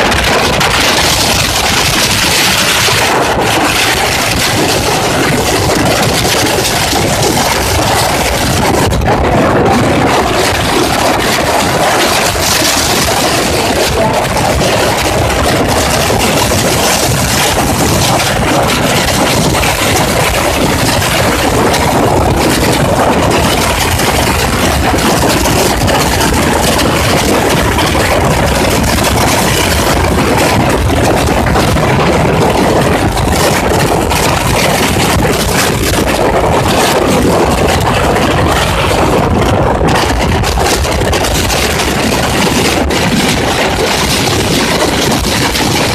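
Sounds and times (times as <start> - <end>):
motorcycle engine running: 0.0 - 45.9
wind rushing over microphone: 0.0 - 45.9.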